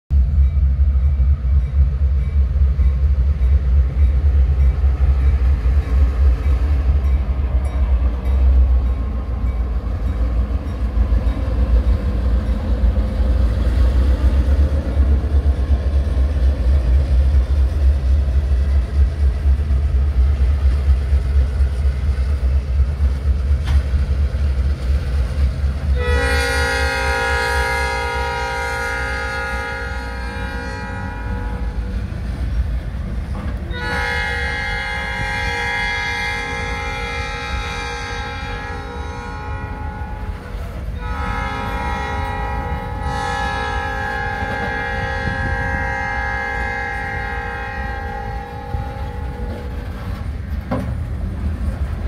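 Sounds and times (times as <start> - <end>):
diesel locomotive engines: 0.1 - 52.0
freight train rumbling past: 0.1 - 52.0.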